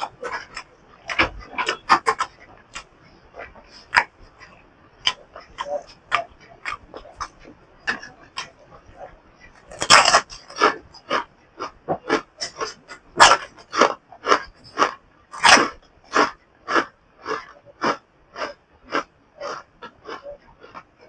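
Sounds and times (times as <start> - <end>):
person chewing noisily: 0.0 - 21.0.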